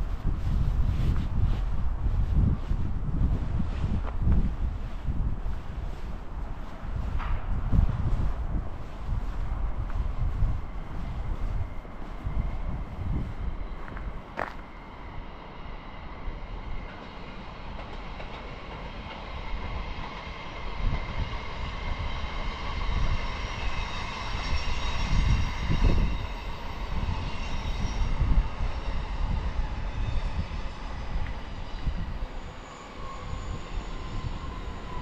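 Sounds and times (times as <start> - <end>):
low train rumble: 0.0 - 35.0
train electric whine: 3.2 - 35.0.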